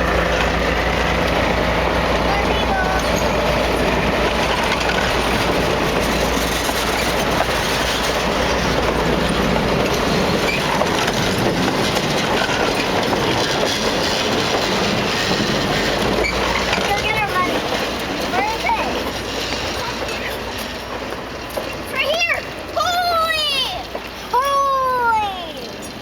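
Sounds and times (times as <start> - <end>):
train rumble: 0.0 - 26.0
train wheels clattering over rail joints: 0.0 - 26.0.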